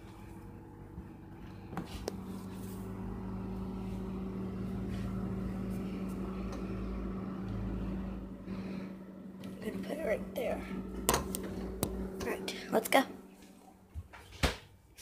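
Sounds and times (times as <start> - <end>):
freezer electric hum: 0.0 - 15.0.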